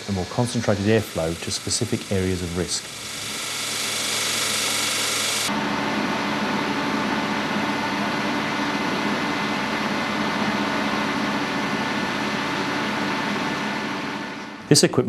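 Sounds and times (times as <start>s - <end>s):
ventilation fan rushing drone: 0.0s - 14.9s
steady hum: 0.0s - 15.0s.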